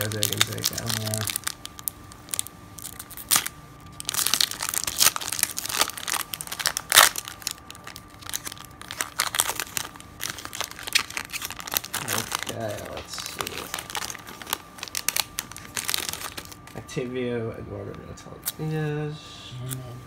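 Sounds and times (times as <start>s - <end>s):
foil wrapper crinkling and tearing: 0.0s - 16.8s.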